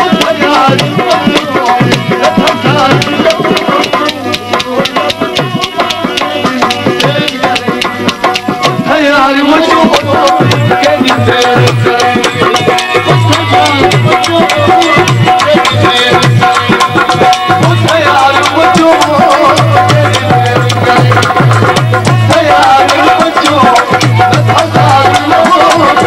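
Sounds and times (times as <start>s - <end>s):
dholak drum beating: 0.0s - 26.0s.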